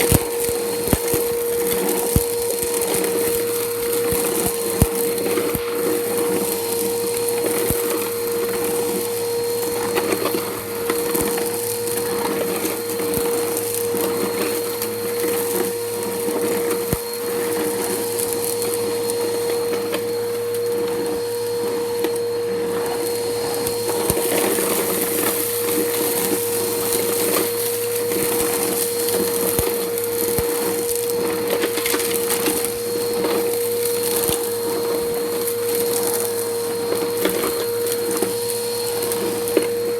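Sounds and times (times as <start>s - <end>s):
grit crackling in vacuum: 0.0s - 39.9s
vacuum cleaner motor whine: 0.0s - 39.9s.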